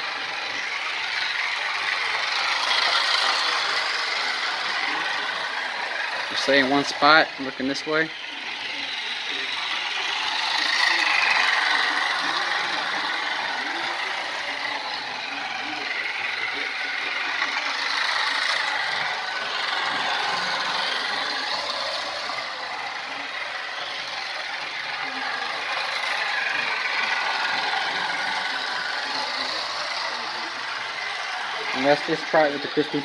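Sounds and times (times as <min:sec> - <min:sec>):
toy train motor whirring: 0:00.0 - 0:33.0.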